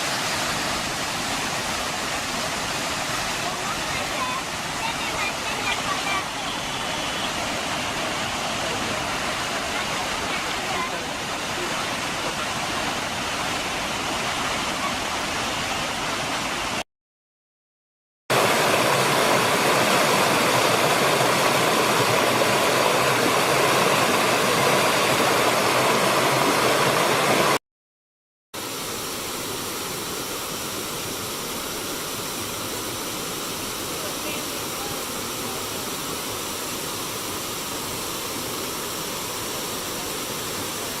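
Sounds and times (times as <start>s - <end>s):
waterfall rushing: 0.0s - 16.8s, 18.3s - 27.6s, 28.6s - 41.0s.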